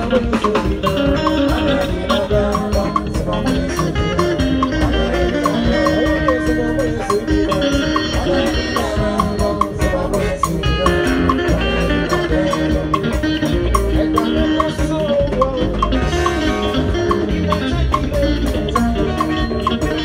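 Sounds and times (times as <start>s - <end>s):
live band playing gospel music: 0.0s - 20.0s.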